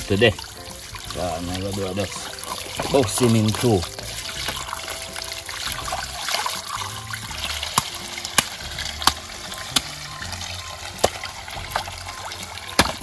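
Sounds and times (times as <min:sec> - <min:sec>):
hose water splashing into basin: 0:00.0 - 0:13.0.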